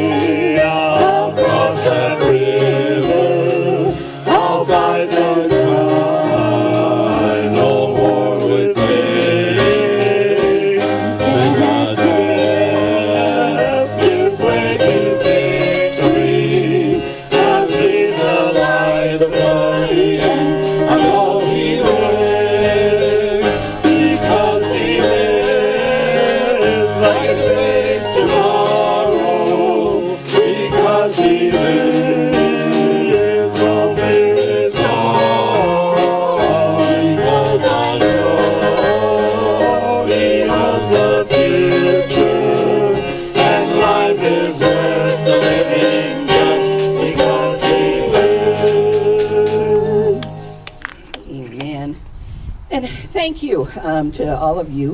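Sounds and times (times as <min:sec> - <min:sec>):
instrumental accompaniment with beat: 0:00.0 - 0:51.2
voices singing worship song: 0:00.0 - 0:51.7.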